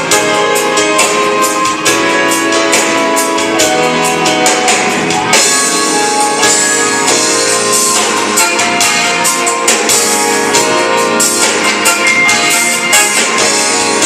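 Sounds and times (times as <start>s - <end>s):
drum kit beat: 0.0s - 14.0s
guitar: 0.0s - 14.0s
sustained keyboard chords: 0.0s - 14.0s.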